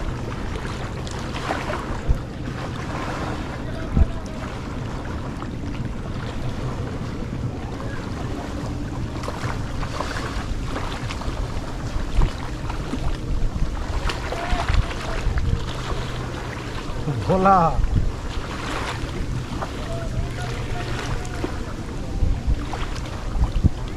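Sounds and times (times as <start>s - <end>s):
river waves: 0.0s - 23.9s
steady low hum: 0.0s - 23.9s
wind buffeting microphone: 0.0s - 23.9s.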